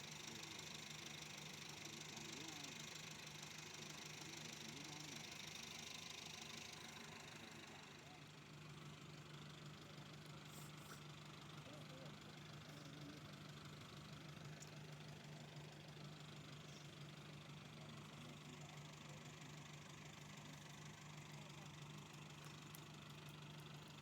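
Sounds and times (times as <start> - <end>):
faint engine humming: 0.0 - 24.0.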